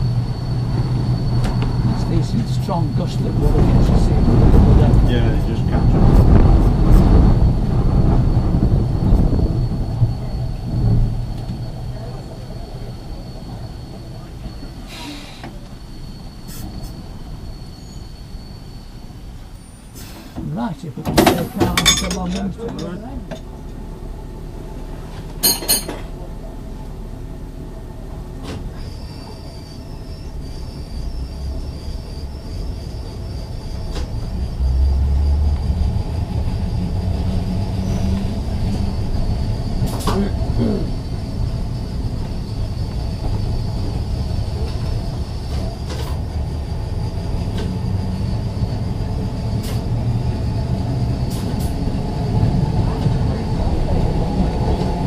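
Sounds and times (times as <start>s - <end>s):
high-pitched whine: 0.0s - 19.9s, 21.2s - 55.0s
tram wheels and motors rumbling: 0.0s - 55.0s.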